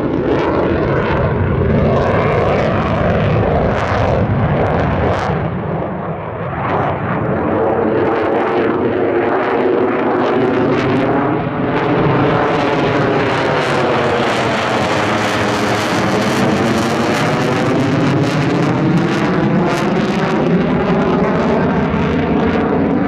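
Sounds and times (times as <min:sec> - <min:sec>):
loud fighter jet flyby: 0:00.0 - 0:23.0.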